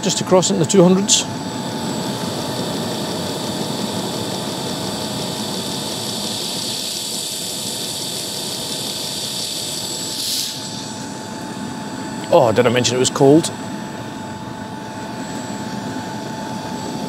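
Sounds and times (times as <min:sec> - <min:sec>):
heater burner and fans rushing: 0:00.0 - 0:17.0
steady high whine: 0:00.0 - 0:17.0.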